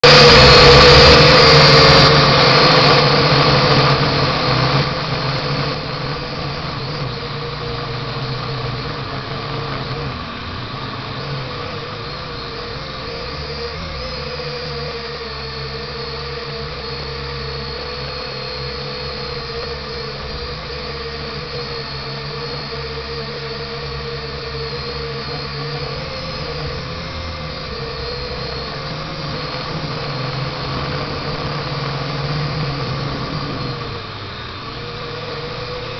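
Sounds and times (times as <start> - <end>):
drone propellers whining: 0.0 - 35.9.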